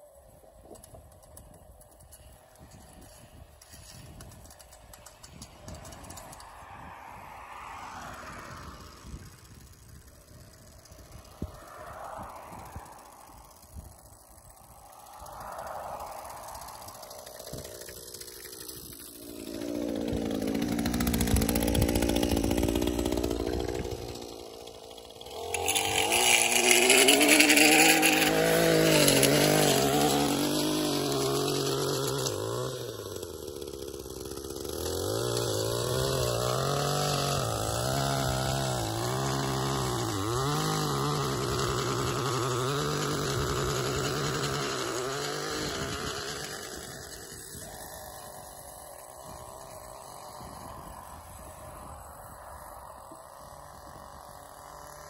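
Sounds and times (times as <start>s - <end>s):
edger engine revving: 5.3s - 55.0s.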